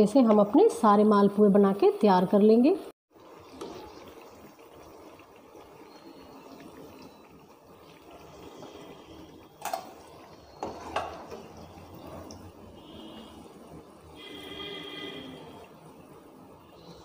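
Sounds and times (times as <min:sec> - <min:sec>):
frying in hot oil sizzle: 0:02.5 - 0:17.0.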